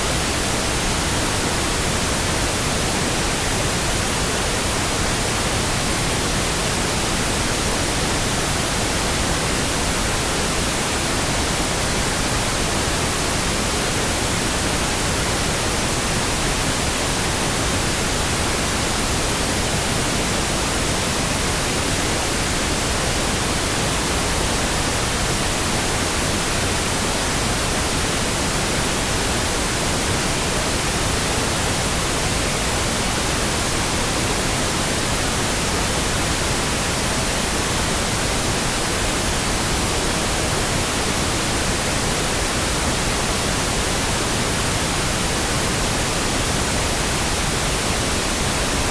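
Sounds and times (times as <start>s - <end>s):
pink noise hiss: 0.0s - 48.9s.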